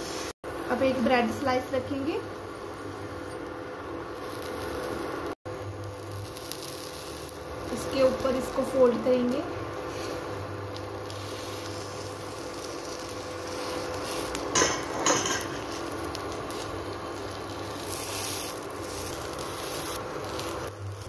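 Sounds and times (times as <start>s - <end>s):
batter sizzling in a pan: 0.0s - 21.0s.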